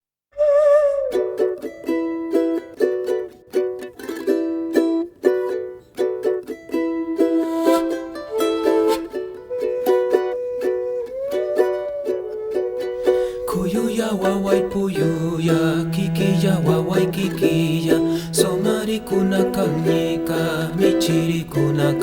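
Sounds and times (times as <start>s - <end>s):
acoustic string instrument strummed: 1.0s - 22.0s.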